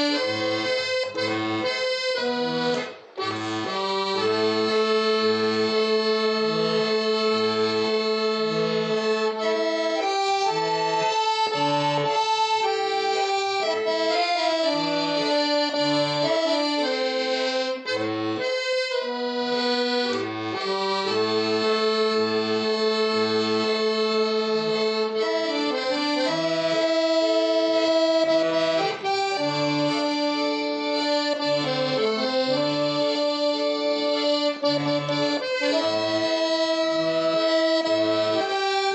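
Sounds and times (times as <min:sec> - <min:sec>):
accordion melody: 0:00.0 - 0:38.9.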